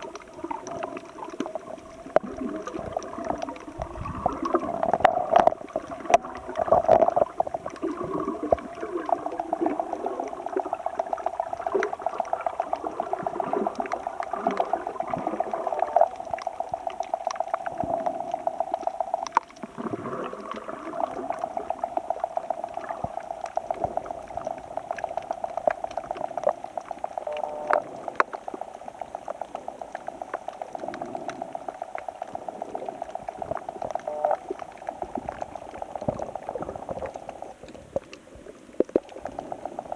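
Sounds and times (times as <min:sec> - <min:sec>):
seawater bubbling and gurgling: 0:00.0 - 0:39.9
water splashes: 0:00.0 - 0:39.9.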